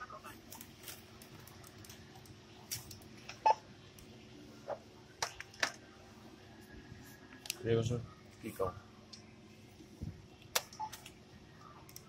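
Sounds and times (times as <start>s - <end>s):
faint steady hum: 0.0s - 12.0s
groceries being handled: 0.0s - 12.0s.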